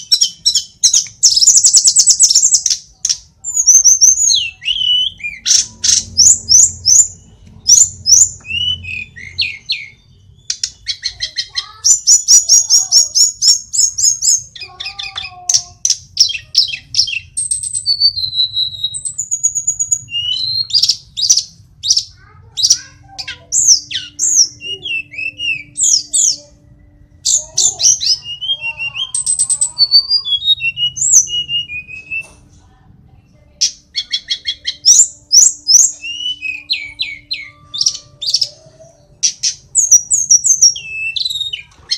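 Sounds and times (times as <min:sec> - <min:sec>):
bird singing whistled sweeps and trills: 0:03.4 - 0:15.3, 0:16.2 - 0:32.3, 0:33.9 - 0:41.9.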